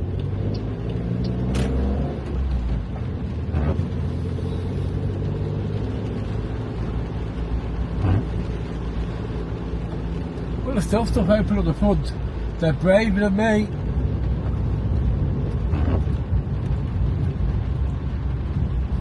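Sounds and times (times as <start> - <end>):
engine and road drone: 0.0 - 19.0.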